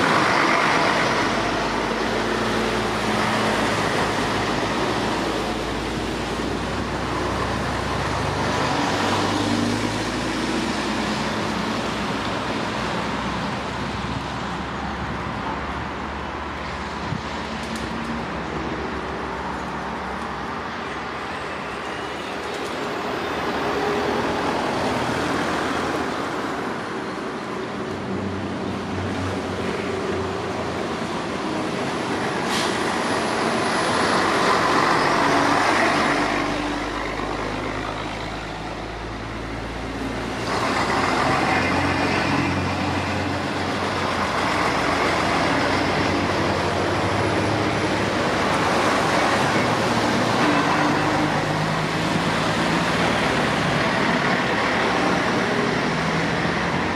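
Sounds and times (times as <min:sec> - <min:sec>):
diesel trucks driving past: 0:00.0 - 0:56.9.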